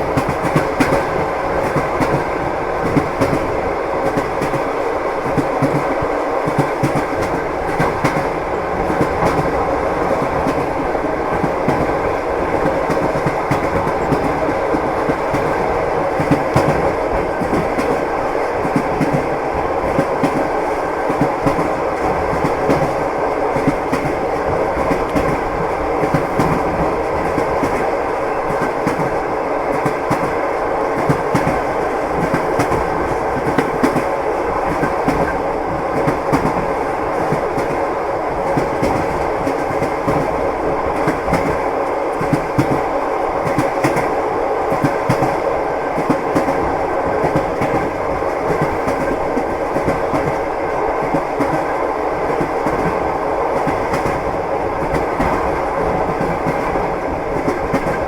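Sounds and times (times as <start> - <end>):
train rumbling: 0.0 - 58.0
train wheels clattering over rails: 0.0 - 58.0.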